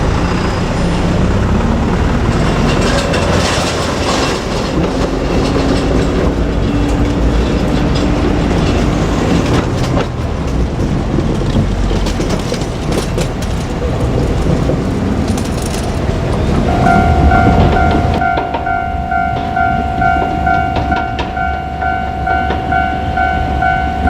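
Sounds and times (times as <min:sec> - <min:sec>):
diesel railcar engine drone: 0:00.0 - 0:24.0
wheels clicking over rail joints: 0:00.0 - 0:24.0.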